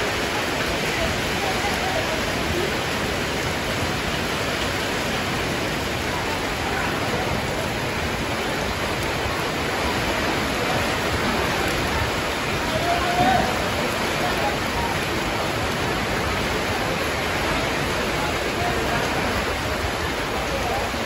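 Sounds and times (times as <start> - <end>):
floodwater rushing: 0.0 - 21.0
heavy rain pouring: 0.0 - 21.0.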